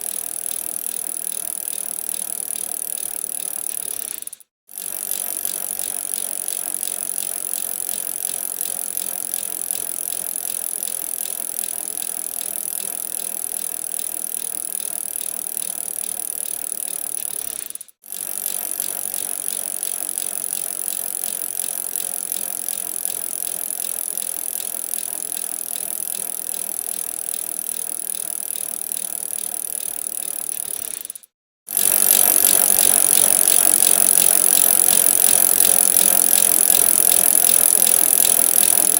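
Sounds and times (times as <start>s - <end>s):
bicycle rattle: 0.0s - 38.9s.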